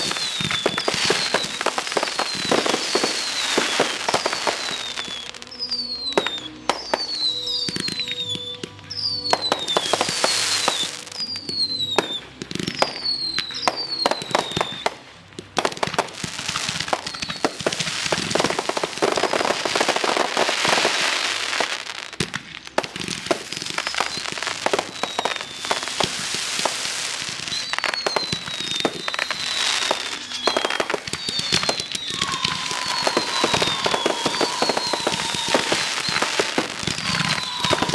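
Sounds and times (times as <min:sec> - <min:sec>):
firework bangs: 0:00.0 - 0:08.4, 0:09.2 - 0:15.0, 0:15.6 - 0:37.9
firework crackling: 0:00.0 - 0:37.9
whistling fireworks: 0:00.0 - 0:37.9.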